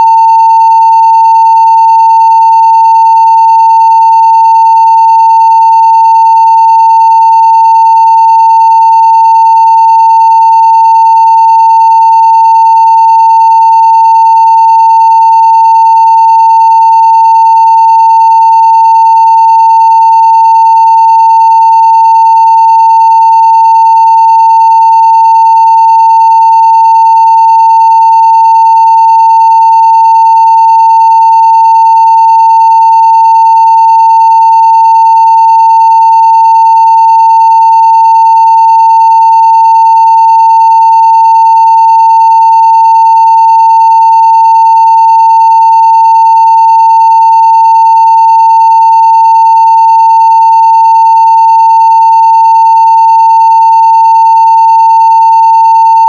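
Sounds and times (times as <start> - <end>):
sine wave test tone: 0.0 - 56.0.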